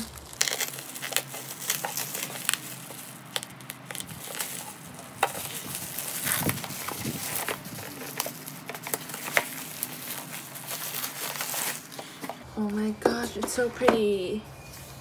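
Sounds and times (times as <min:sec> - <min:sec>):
bubble wrap crackles: 0:00.0 - 0:12.4
bubble wrap crinkling: 0:00.0 - 0:12.8.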